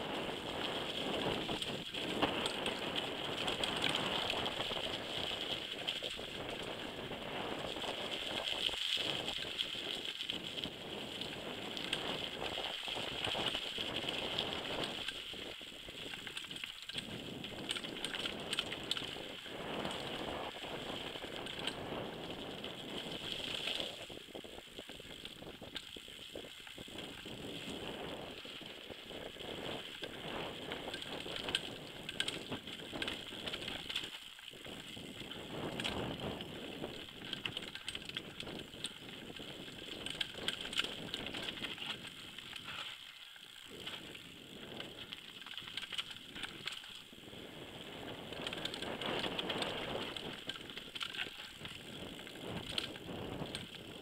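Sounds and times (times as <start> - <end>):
bike clattering over roots: 0.3 - 47.1, 48.1 - 54.0.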